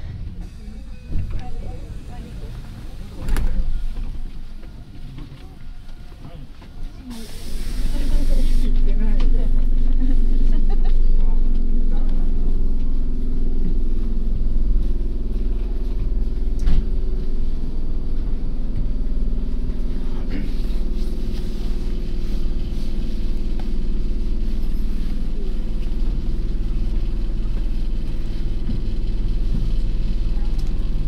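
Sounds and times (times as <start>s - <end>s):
electric train motor hum: 0.0s - 31.0s
low rumble: 0.0s - 31.0s.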